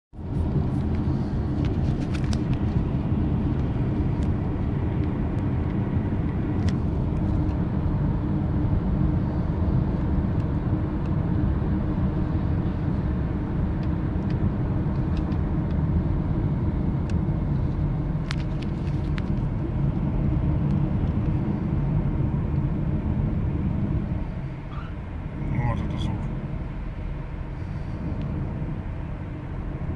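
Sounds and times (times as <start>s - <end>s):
car cabin road rumble: 0.2s - 29.9s.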